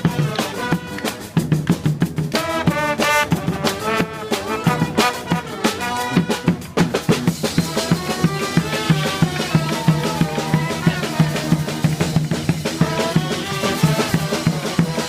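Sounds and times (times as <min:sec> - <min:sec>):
horns playing a tune: 0:00.0 - 0:01.4, 0:02.3 - 0:15.0
steady drum beat: 0:00.0 - 0:15.0.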